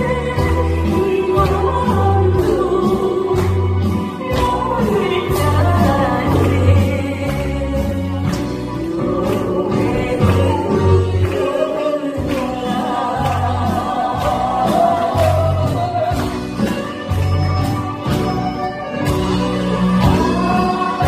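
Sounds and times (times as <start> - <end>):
person singing into a microphone: 0.0 - 16.6, 19.6 - 21.0.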